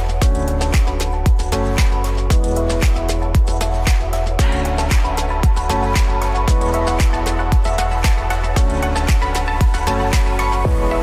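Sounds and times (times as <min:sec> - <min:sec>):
music with heavy steady beat: 0:00.0 - 0:11.0.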